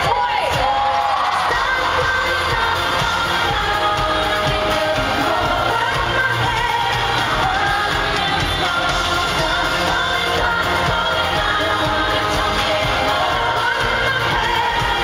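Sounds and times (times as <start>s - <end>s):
live pop music with singing: 0.0s - 15.0s.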